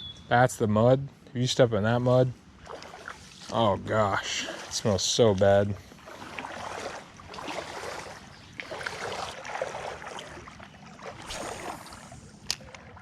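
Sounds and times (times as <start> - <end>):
wading through creek water: 1.6 - 13.0.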